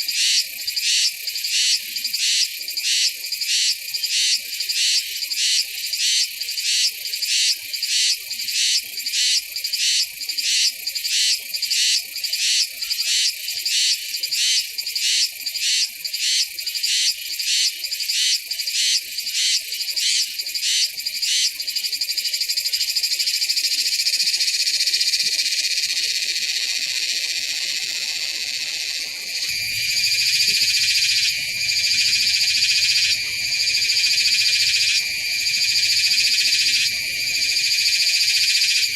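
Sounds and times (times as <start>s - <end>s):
cicadas singing: 0.0s - 38.9s.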